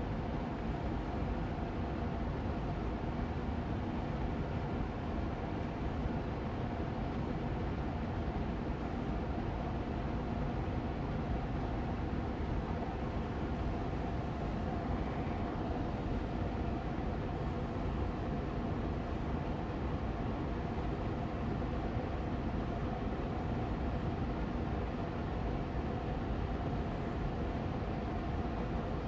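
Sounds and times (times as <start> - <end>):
air purifier fan running: 0.0 - 29.0
faint steady hum: 0.0 - 29.0.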